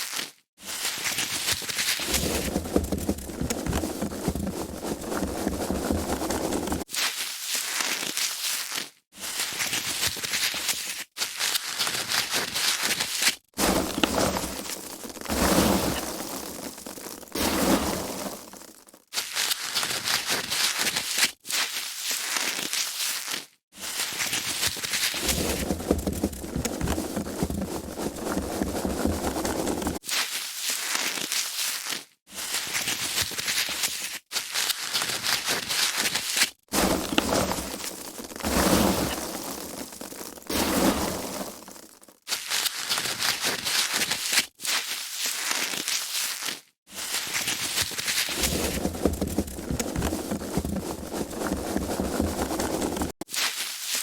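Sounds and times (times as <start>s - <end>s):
foam packaging crackling: 0.0s - 54.0s.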